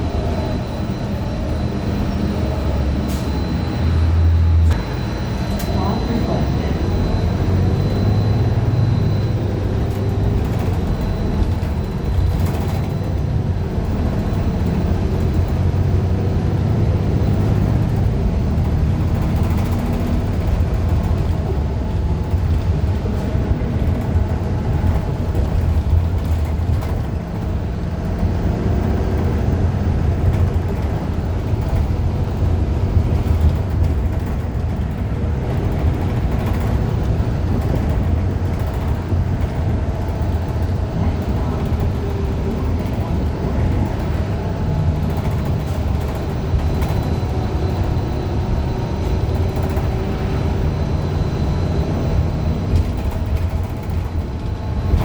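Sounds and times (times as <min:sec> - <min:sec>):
bus engine and drivetrain: 0:00.0 - 0:55.0
low rumble of road noise: 0:00.0 - 0:55.0.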